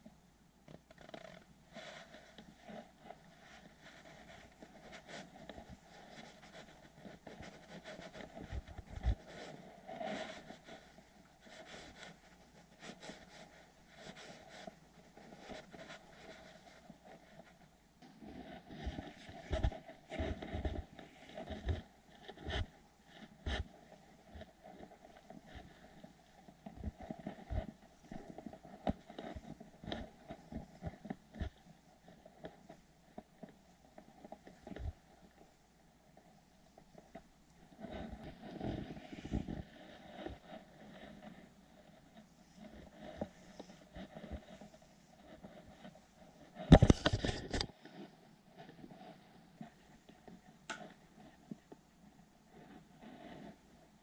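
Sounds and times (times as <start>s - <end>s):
grooming tool scratching through fur: 1.0s - 32.6s, 37.6s - 51.7s, 52.5s - 53.9s.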